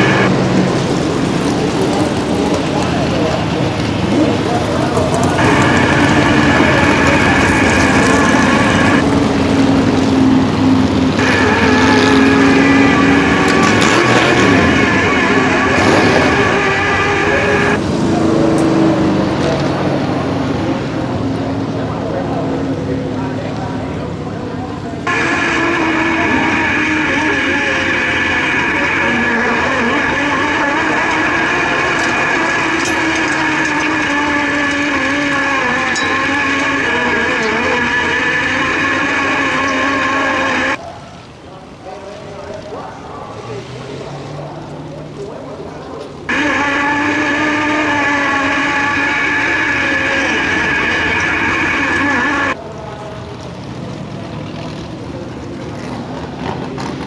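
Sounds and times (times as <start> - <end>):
race car engine running: 0.0 - 40.8, 42.1 - 52.6.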